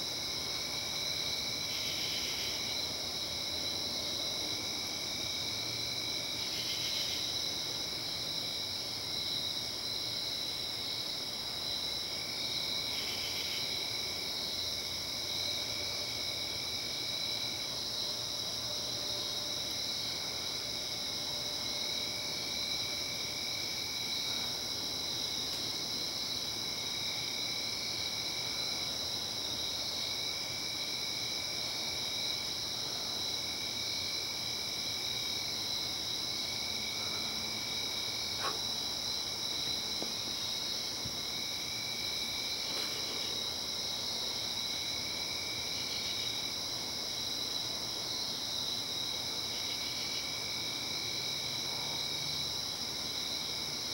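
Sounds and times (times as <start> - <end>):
crickets and insects trilling: 0.0 - 53.9
lower insect trill: 0.0 - 53.9.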